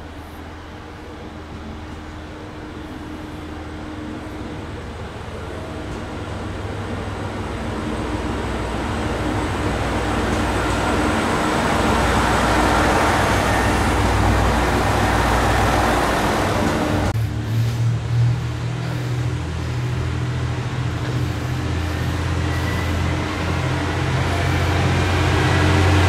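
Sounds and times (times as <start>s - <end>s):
diesel railcar engine running: 0.0s - 26.0s
train wheels rolling on rails: 1.1s - 26.0s.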